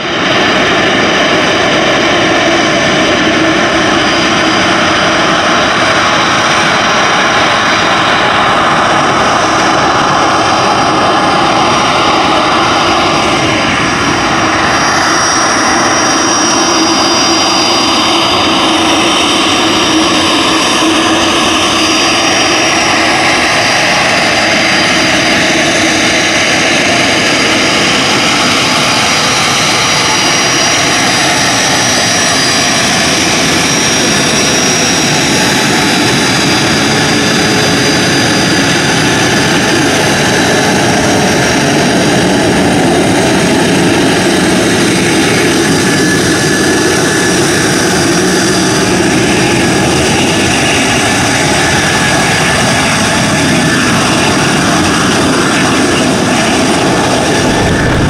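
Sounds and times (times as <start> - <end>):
high jet whine: 0.0 - 58.0
jet engines running: 0.0 - 58.0.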